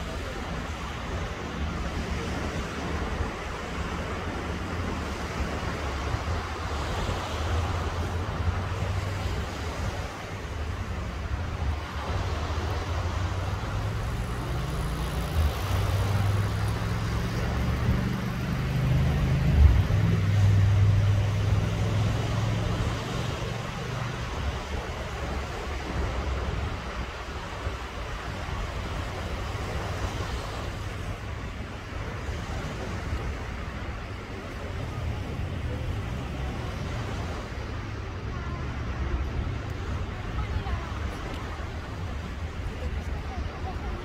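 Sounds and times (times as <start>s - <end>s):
small waves washing onto beach: 0.0s - 44.0s.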